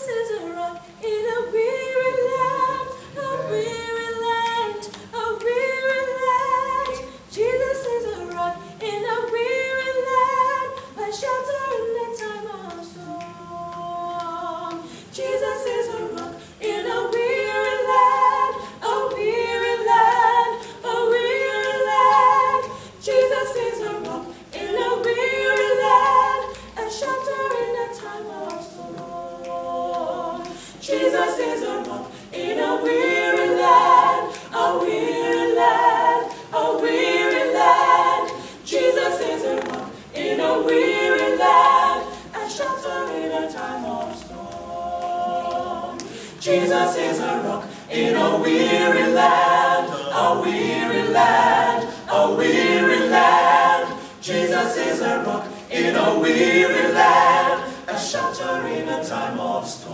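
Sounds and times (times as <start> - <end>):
a cappella group singing in harmony: 0.0 - 59.9.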